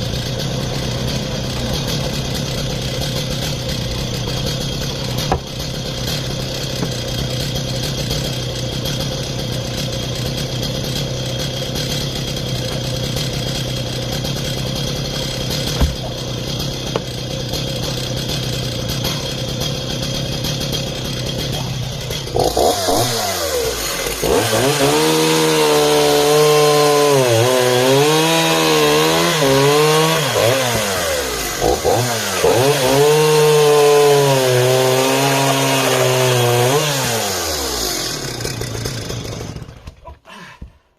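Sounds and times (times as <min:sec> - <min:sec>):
chainsaw engine running: 0:00.0 - 0:40.6
chainsaw cutting wood: 0:00.0 - 0:40.8.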